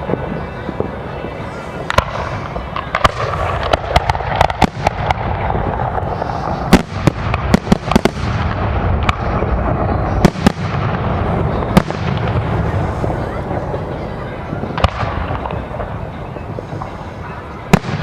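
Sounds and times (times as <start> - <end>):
fireworks bangs: 0.0 - 18.0
fireworks rumble and crackle: 0.0 - 18.0.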